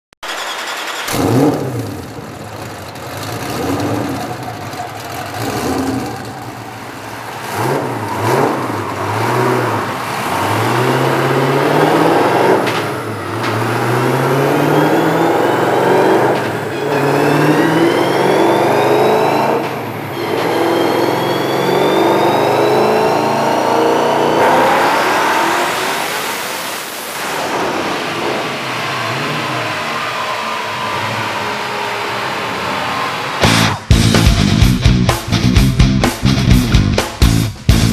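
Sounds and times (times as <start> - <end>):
car engine revving and accelerating: 0.9 - 33.8.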